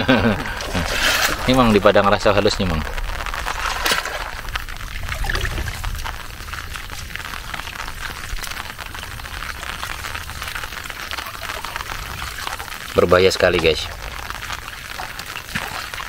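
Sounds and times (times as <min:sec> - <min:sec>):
splashing trickling water: 0:00.0 - 0:16.0.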